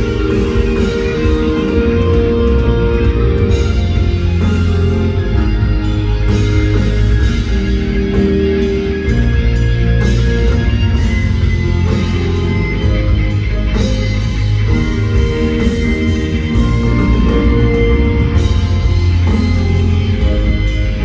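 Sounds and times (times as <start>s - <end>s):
electric guitar: 0.0s - 21.0s
heavy bass and drums: 0.0s - 21.0s
rock band through stadium speakers: 0.0s - 21.0s.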